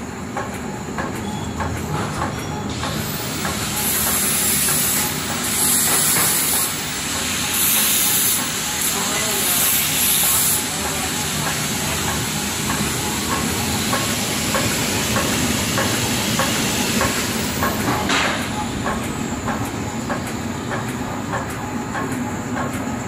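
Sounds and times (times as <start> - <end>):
machine hiss and hum: 0.0 - 23.0.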